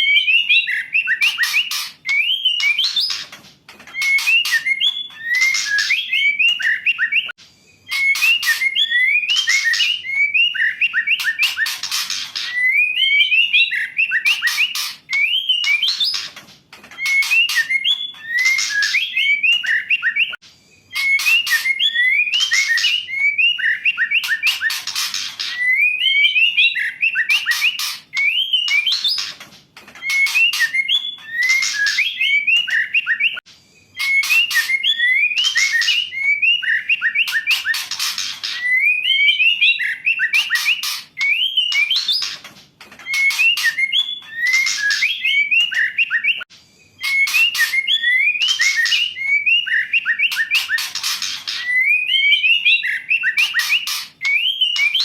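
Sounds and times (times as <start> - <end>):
bird whistling and rasping calls: 0.0 - 29.4, 30.0 - 55.0.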